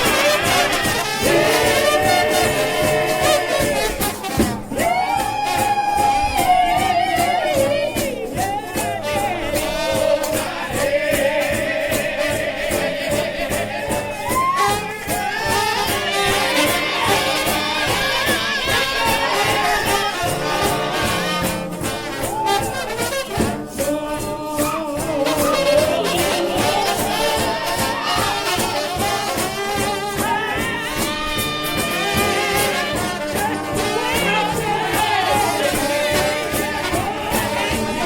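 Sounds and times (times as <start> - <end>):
brass band playing: 0.0 - 38.0
driving percussion beat: 0.0 - 38.0
trombone: 0.0 - 38.0.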